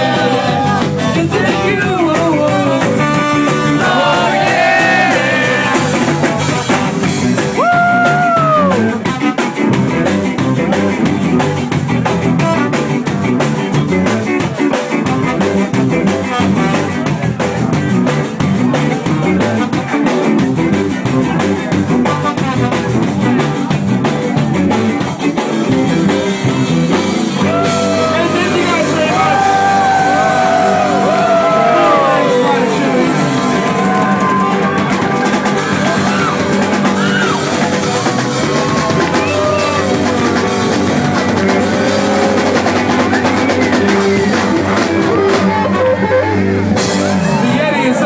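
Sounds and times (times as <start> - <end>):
drum kit beat: 0.0 - 47.4
guitars: 0.0 - 48.0
rock band playing: 0.0 - 48.0.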